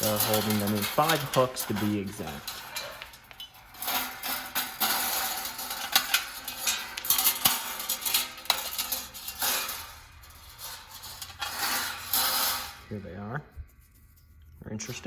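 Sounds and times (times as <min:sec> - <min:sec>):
heater parts clinking and rattling: 0:00.0 - 0:13.2.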